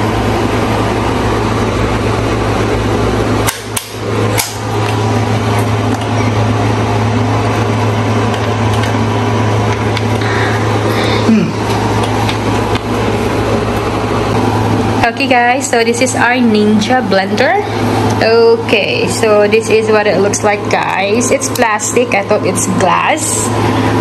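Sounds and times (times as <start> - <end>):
loud hum with low drone: 0.0 - 24.0.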